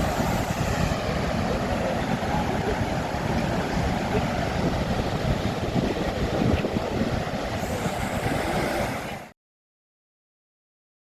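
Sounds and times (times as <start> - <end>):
waterfall roar: 0.0 - 9.3.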